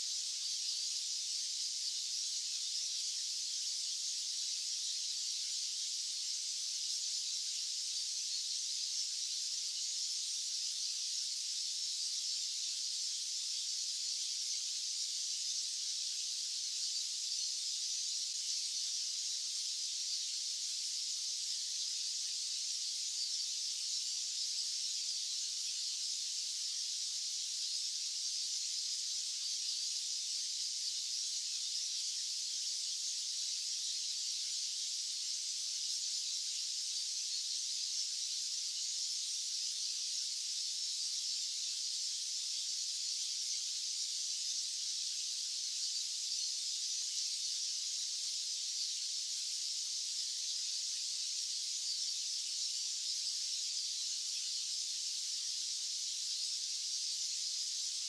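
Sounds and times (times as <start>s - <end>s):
steady high white noise hiss: 0.0s - 58.0s.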